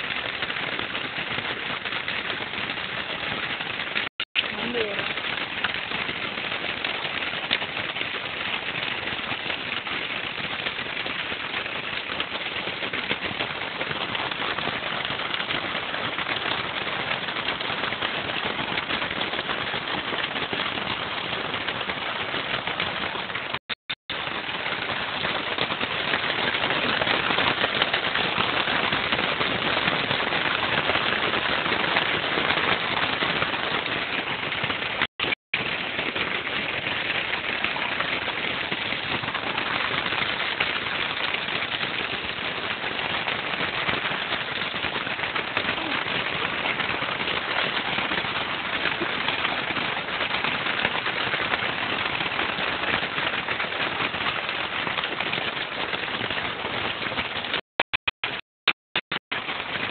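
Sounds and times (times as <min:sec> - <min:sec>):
fountain splashing into pond: 0:00.0 - 0:57.6, 0:59.3 - 0:59.9.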